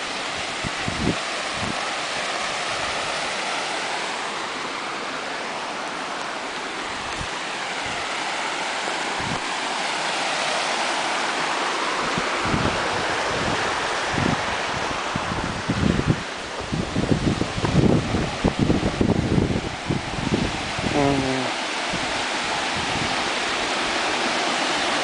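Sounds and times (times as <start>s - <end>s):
water cascading over rocks: 0.0s - 25.0s.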